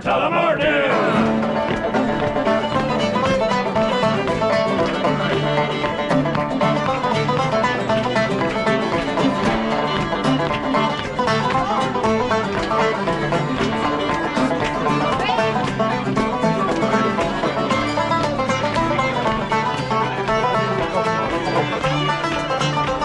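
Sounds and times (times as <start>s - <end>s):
bluegrass banjo and guitar: 0.0s - 23.0s.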